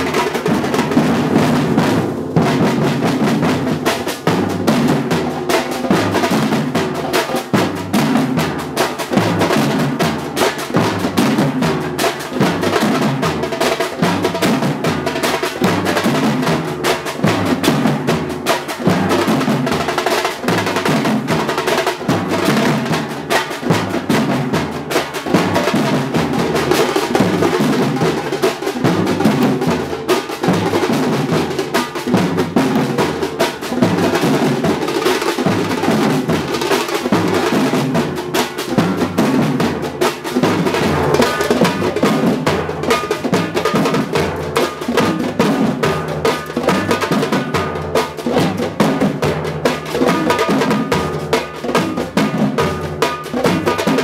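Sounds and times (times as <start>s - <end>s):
samba percussion ensemble: 0.0s - 54.0s.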